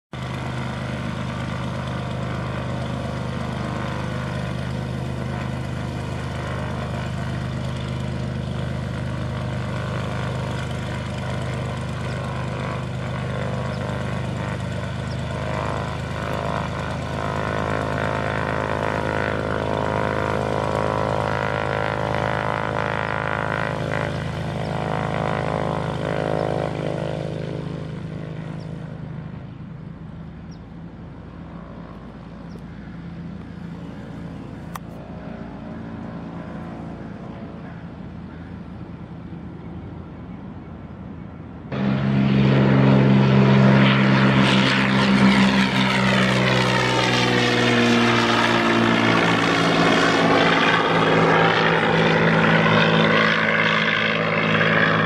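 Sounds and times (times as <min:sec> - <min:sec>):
airplane engine and propeller drone: 0:00.1 - 0:55.0.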